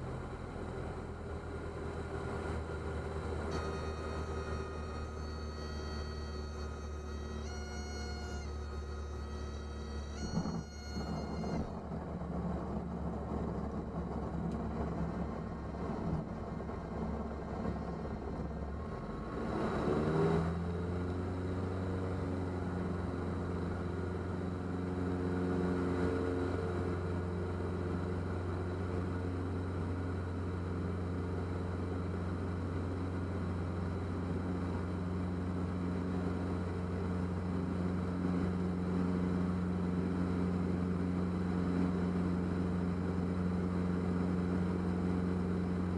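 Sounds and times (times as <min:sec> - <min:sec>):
airplane engine and propeller: 0:00.0 - 0:45.9.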